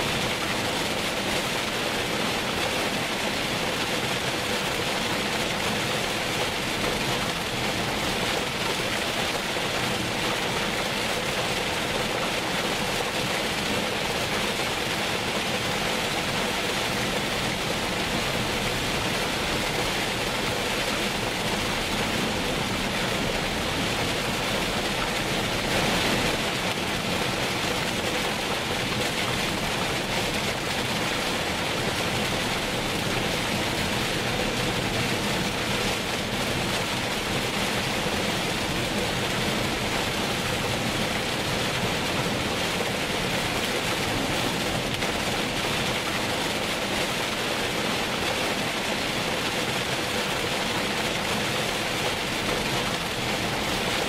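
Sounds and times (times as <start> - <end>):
rain on car roof: 0.0 - 54.0.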